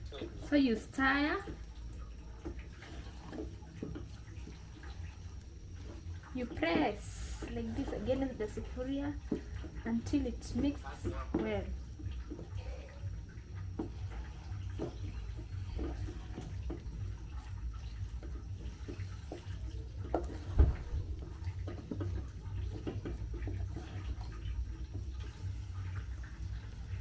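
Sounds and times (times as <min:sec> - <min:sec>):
wet squelching stirring strokes: 0:00.0 - 0:27.0.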